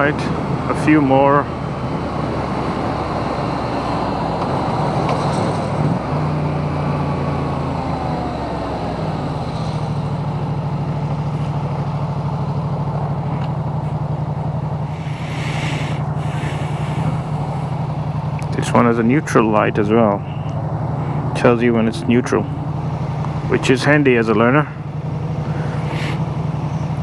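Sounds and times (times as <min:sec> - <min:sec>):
motorcycle engine slowing and idling: 0:00.0 - 0:27.0.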